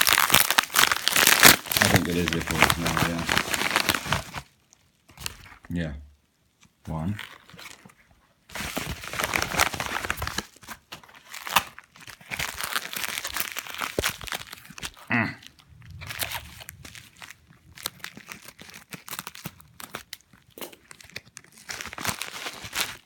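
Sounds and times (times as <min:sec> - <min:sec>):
packaging crinkling and tearing: 0:00.0 - 0:05.7, 0:07.1 - 0:23.0.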